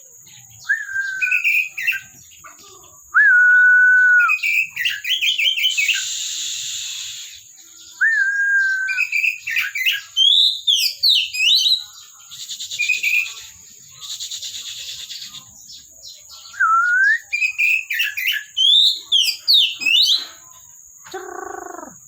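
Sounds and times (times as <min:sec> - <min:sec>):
magpie-robin singing: 0:00.0 - 0:02.6, 0:04.2 - 0:22.0.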